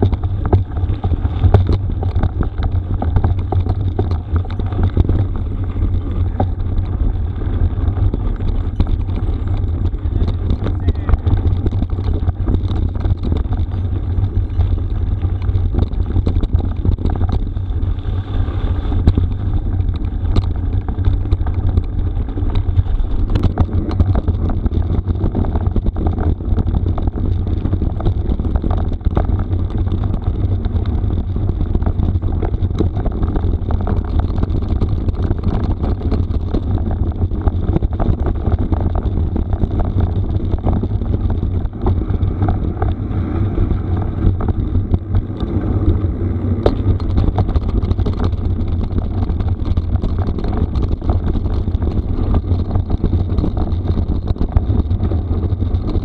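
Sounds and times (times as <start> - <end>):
bike tyres rattling on gravel: 0.0 - 56.0
wind rumbling on microphone: 0.0 - 56.0.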